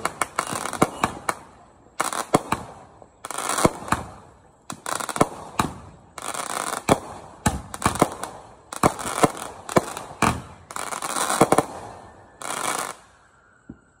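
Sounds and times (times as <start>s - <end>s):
fireworks bangs: 0.0s - 14.0s
fireworks hiss and crackle: 0.0s - 14.0s.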